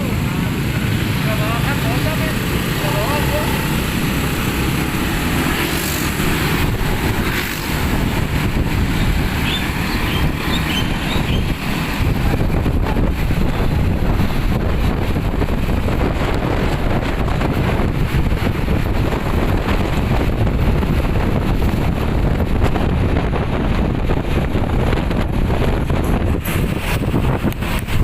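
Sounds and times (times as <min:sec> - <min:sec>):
vehicle running rumble: 0:00.0 - 0:28.0
wind buffeting microphone: 0:00.0 - 0:28.0.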